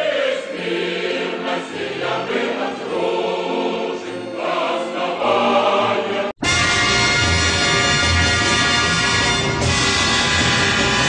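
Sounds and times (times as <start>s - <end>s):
choir singing held notes: 0.0s - 11.0s.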